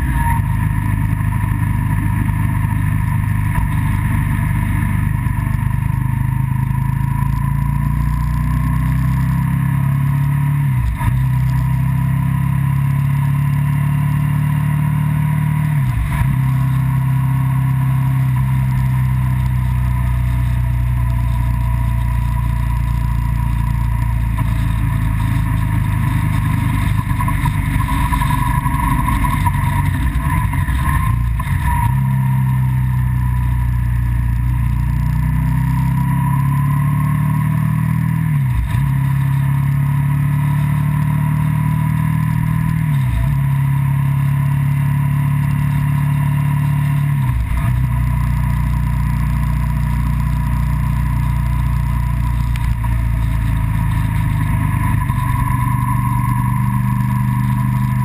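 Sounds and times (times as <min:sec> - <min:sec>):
road noise: 0:00.0 - 0:58.0
vehicle engine running: 0:00.0 - 0:58.0.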